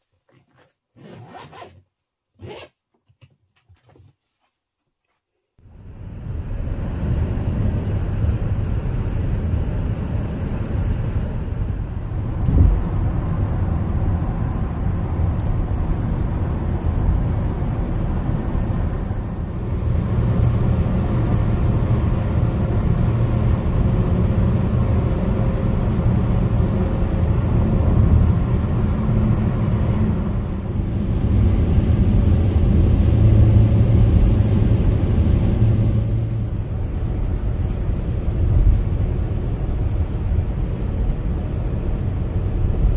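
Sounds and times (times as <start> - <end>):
car road noise rumble: 5.6 - 42.9.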